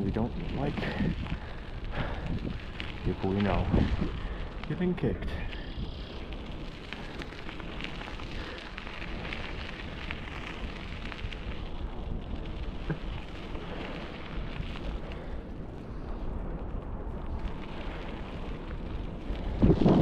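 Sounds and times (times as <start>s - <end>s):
bicycle tyres on rough surface: 0.0s - 20.0s
wind rumbling on microphone: 0.0s - 20.0s.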